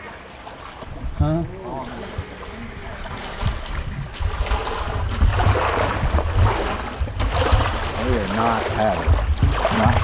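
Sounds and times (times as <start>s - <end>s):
water sloshing from wading: 0.0s - 10.0s
wind rumble on microphone: 0.8s - 10.0s.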